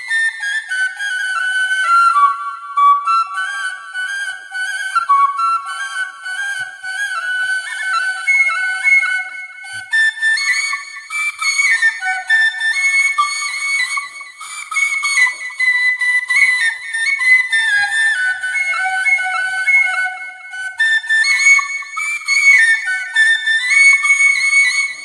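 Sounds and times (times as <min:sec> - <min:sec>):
bamboo flute melody: 0:00.0 - 0:25.0.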